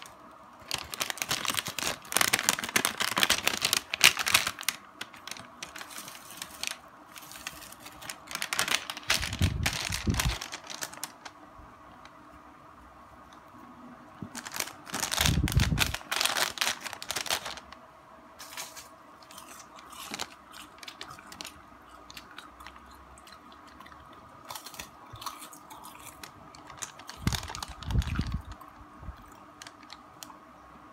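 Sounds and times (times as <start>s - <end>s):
seaweed snack crackling: 0.0s - 11.4s, 14.3s - 17.8s, 18.4s - 30.3s.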